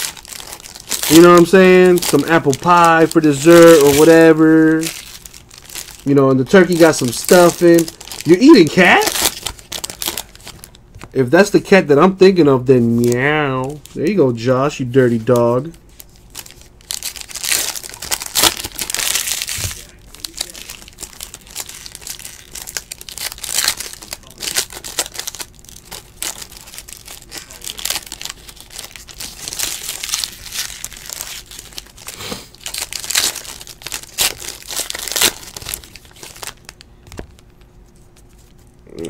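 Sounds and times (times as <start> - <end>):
foil wrappers crinkling and tearing: 0.0 - 38.7.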